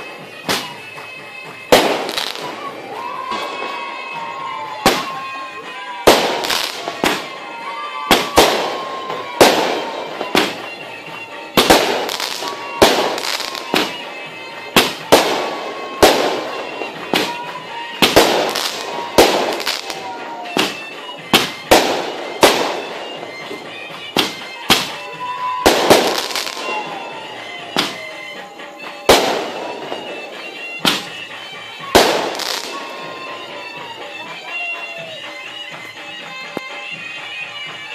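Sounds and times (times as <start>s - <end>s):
fireworks bursting with bangs: 0.0s - 37.9s
fireworks crackle: 0.0s - 37.9s.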